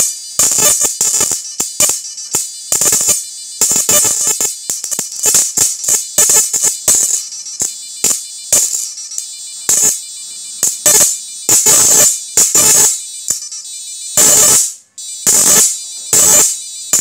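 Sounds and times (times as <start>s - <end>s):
electric arc buzzing and crackling: 0.0s - 17.0s.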